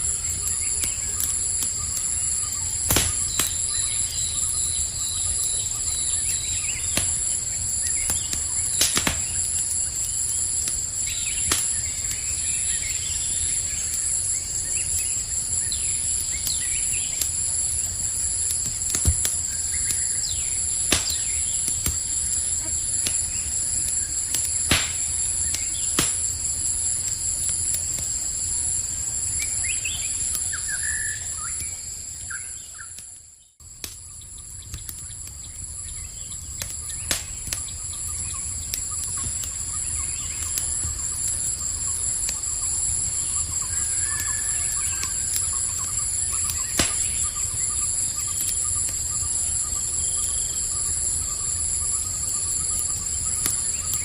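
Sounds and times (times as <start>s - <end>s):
campfire crackling: 0.0s - 54.0s
night insects chirring: 0.0s - 54.0s.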